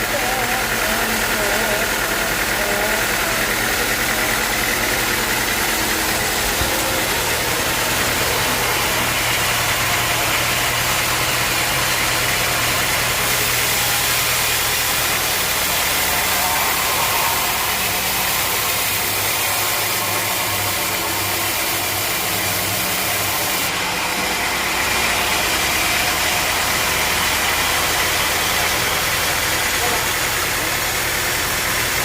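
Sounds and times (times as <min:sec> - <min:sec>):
sawmill machinery humming: 0:00.0 - 0:32.0.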